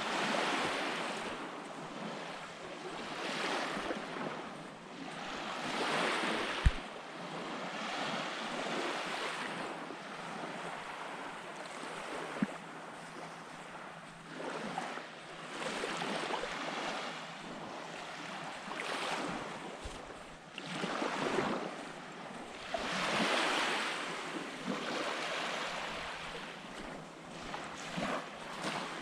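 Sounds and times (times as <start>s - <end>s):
small waves washing onto beach: 0.0s - 29.0s.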